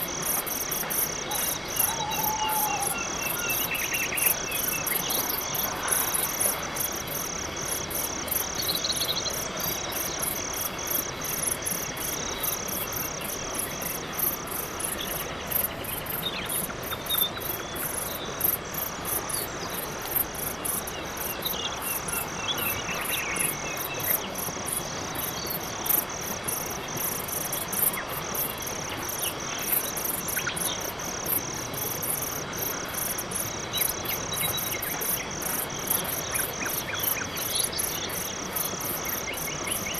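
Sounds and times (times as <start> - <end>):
cricket chirping: 0.0 - 39.9
high insect trill: 0.0 - 39.9.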